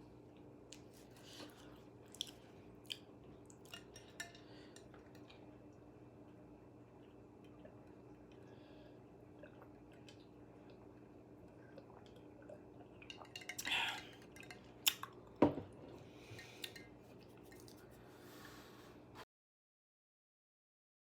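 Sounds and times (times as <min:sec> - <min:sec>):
faint steady hum: 0:00.0 - 0:19.2.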